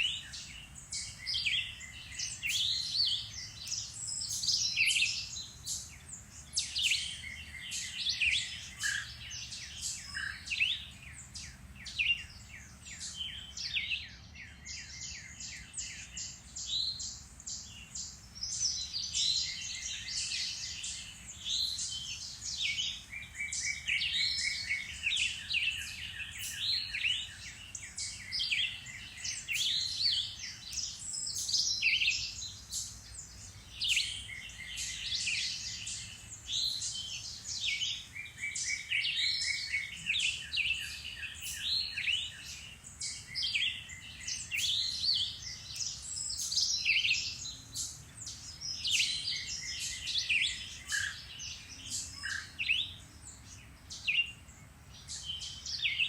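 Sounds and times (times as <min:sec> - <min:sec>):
songbirds chorus chirping: 0:00.0 - 0:56.0.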